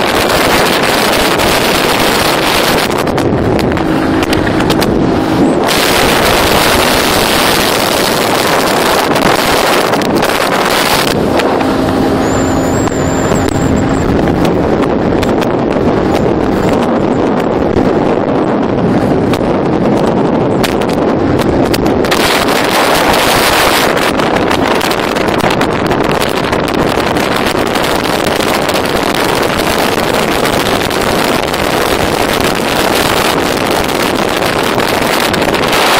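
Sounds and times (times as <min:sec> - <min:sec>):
outboard engine running: 0:00.0 - 0:35.9
water rushing along hull: 0:00.0 - 0:35.9
wind on microphone: 0:00.0 - 0:35.9.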